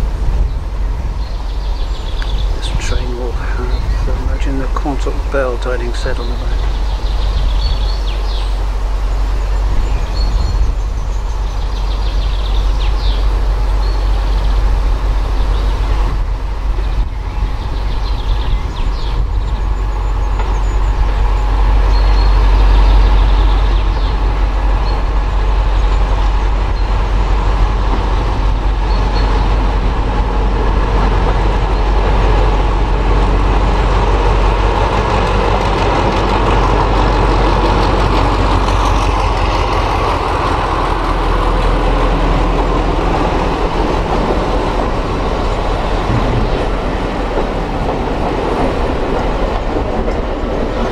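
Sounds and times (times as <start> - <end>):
diesel locomotive rumbling: 0.0 - 50.9.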